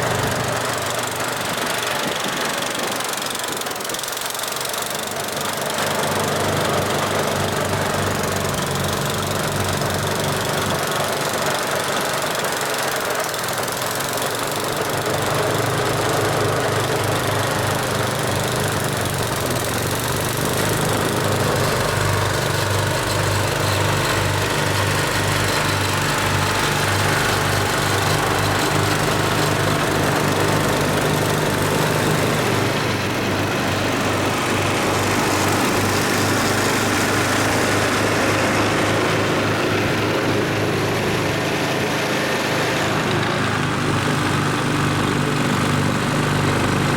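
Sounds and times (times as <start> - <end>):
snowblower engine running: 0.0 - 46.9.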